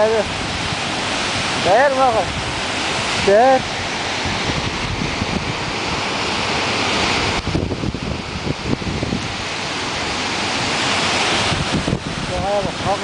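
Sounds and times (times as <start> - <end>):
waterfall roar: 0.0 - 13.0
wind buffeting microphone: 0.0 - 13.0.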